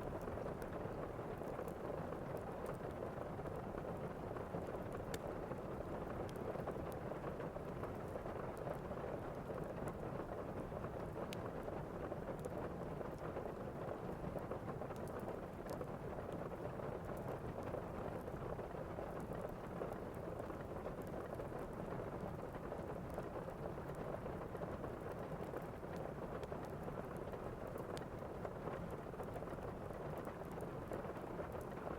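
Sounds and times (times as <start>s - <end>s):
steady rain: 0.0s - 31.9s.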